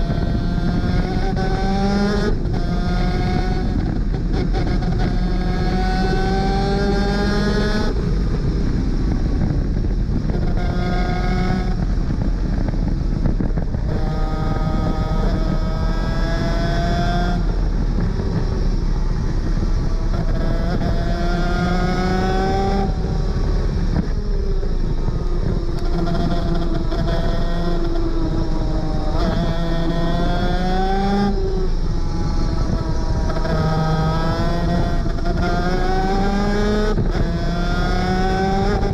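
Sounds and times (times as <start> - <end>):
two-stroke kart engine racing: 0.0 - 38.9.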